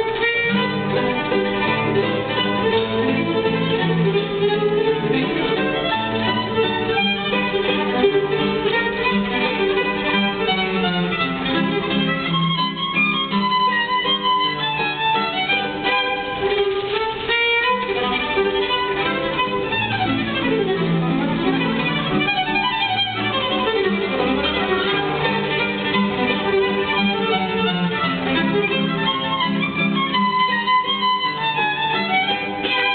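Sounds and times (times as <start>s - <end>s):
acoustic guitar: 0.0s - 32.9s
violin: 0.0s - 32.9s.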